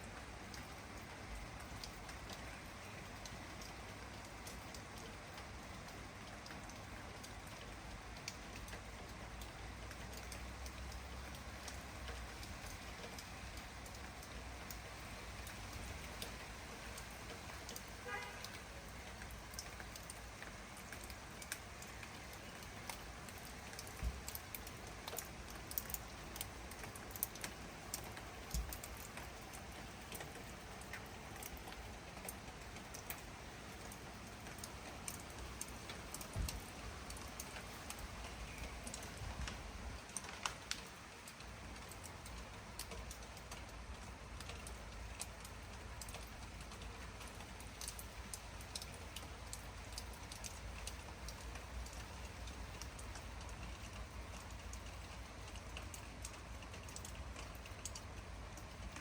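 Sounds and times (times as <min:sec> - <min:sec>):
steady rain falling: 0:00.0 - 0:59.0
raindrops tapping sharply: 0:00.5 - 0:59.0.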